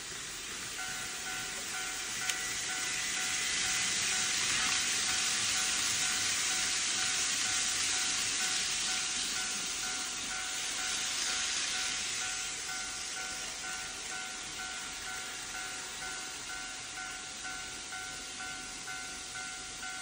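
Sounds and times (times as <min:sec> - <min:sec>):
model train running hiss: 0:00.0 - 0:20.0
level crossing warning sound: 0:00.5 - 0:20.0.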